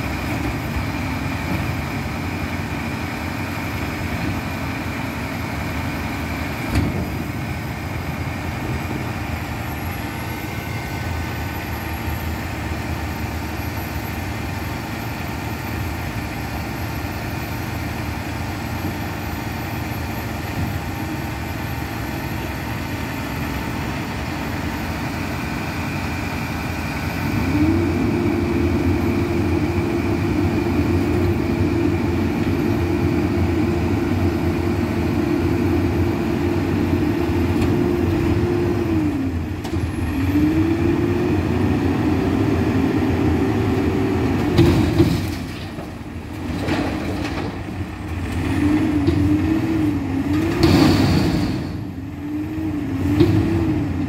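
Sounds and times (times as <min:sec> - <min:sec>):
diesel engine idling: 0:00.0 - 0:50.3.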